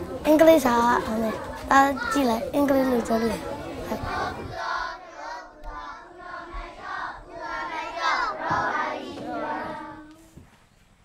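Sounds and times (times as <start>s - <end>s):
children chanting in unison: 1.0s - 10.3s.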